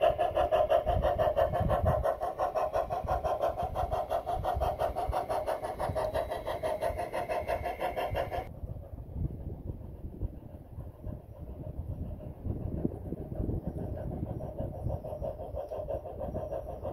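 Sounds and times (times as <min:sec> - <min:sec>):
model steam locomotive chuffing: 0:00.0 - 0:16.9.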